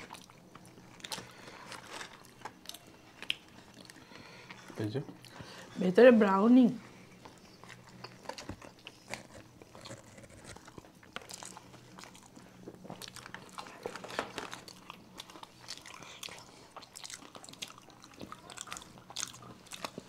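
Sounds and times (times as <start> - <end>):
close chewing and biting: 0.0 - 5.7, 7.1 - 20.0.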